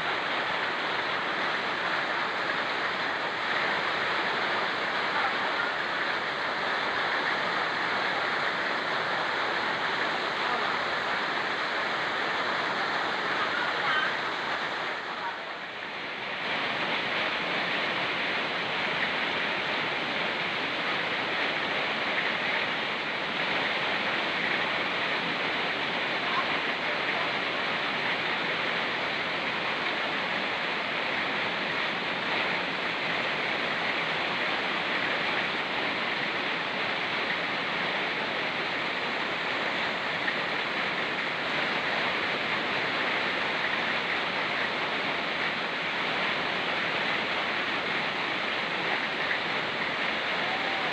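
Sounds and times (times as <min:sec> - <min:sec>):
mountain stream rushing: 0:00.0 - 0:50.9
rain: 0:00.0 - 0:50.9.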